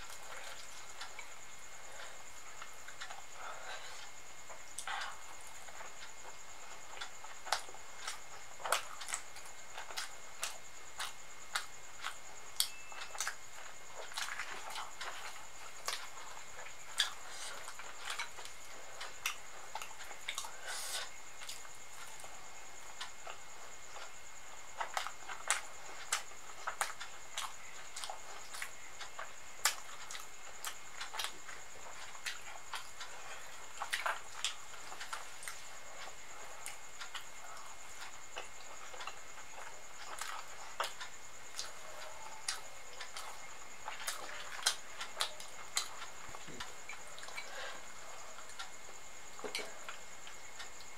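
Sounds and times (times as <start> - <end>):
mouth chewing wetly: 0.0 - 50.9.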